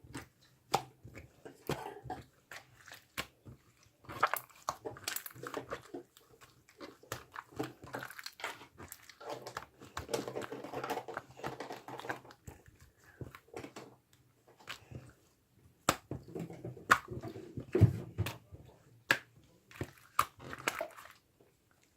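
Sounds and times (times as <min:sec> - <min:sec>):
slime squelching by hand: 0:00.0 - 0:21.9.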